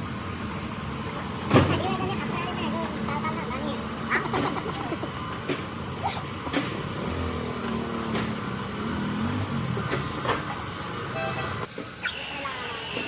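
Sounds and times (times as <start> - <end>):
motor vehicle engine passing: 0.0 - 11.7.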